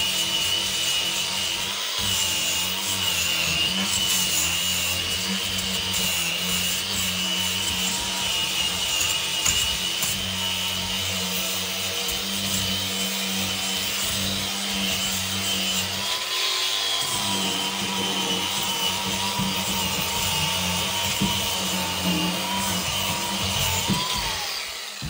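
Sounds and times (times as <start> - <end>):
angle grinder sanding wood: 0.0 - 25.0.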